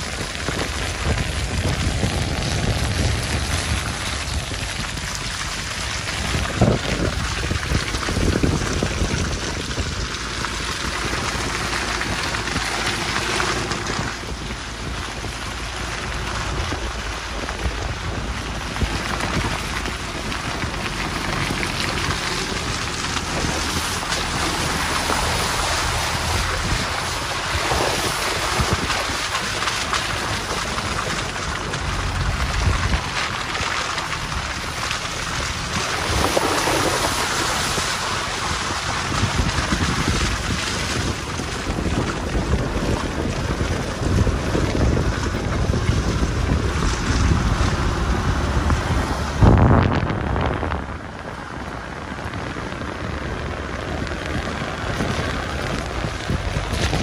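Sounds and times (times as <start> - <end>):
off-road vehicle engine rumble: 0.0 - 57.0
wind buffeting microphone: 0.0 - 57.0.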